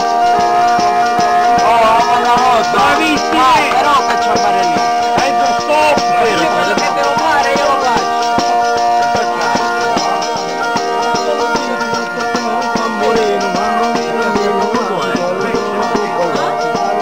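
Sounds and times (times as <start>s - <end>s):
bagpipe folk tune with drones: 0.0s - 17.0s
frame drum beating: 0.0s - 17.0s.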